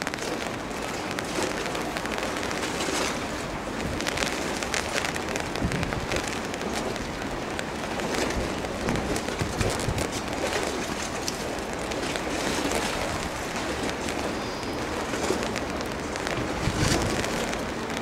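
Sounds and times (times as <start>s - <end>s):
rushing outdoor noise: 0.0s - 18.0s
small crackles: 0.0s - 18.0s.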